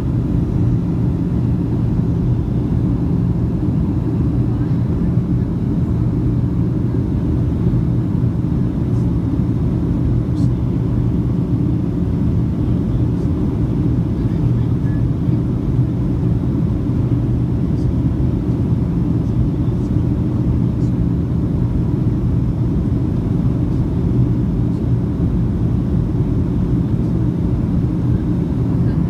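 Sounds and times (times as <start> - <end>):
airliner cabin engine roar: 0.0 - 29.0
steady low hum: 0.0 - 29.0.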